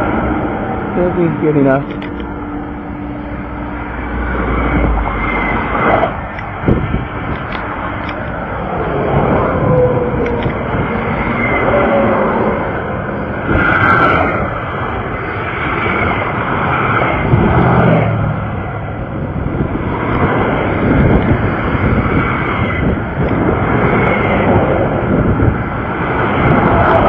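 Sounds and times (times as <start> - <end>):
steady vehicle rushing noise: 0.0 - 27.0.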